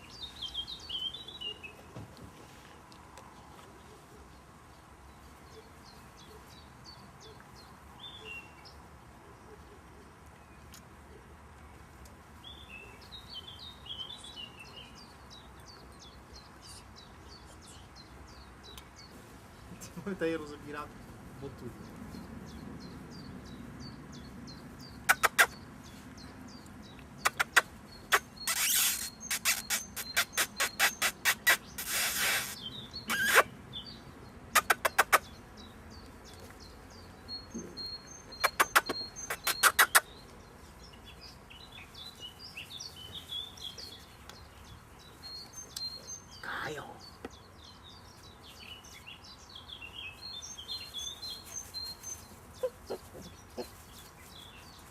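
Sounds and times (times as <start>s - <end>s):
bird chirping: 0.0s - 2.2s, 3.8s - 9.8s, 12.4s - 54.9s.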